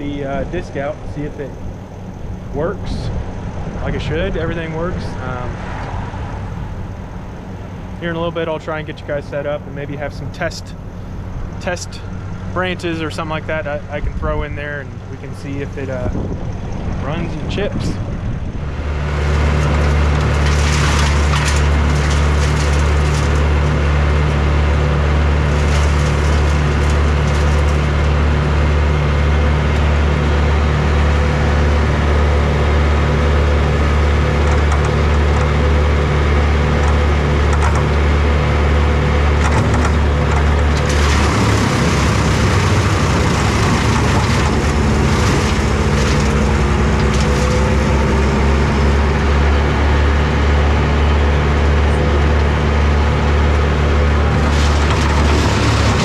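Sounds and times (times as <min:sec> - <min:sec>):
wood chipper diesel engine running: 0:00.0 - 0:56.0.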